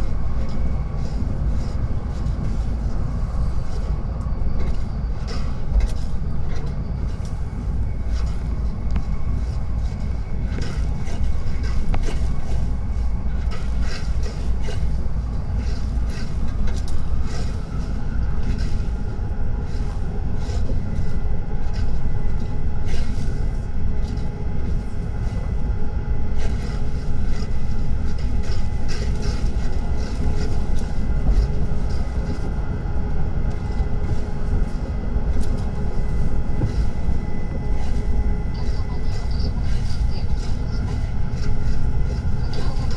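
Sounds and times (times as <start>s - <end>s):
train rumbling at speed: 0.0s - 42.9s.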